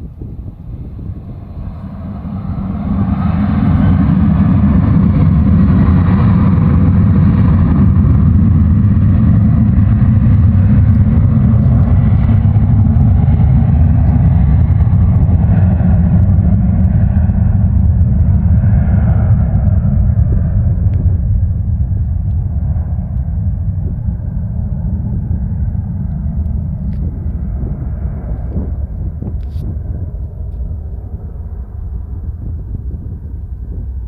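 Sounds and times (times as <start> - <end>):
jet engines at high thrust: 0.0 - 34.0.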